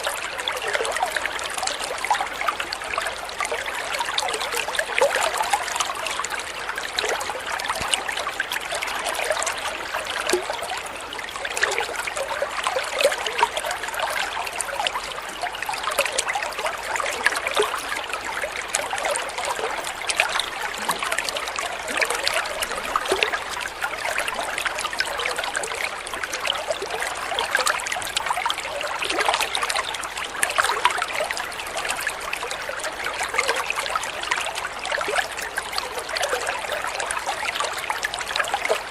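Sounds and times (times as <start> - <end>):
water trickling over stones: 0.0 - 38.9.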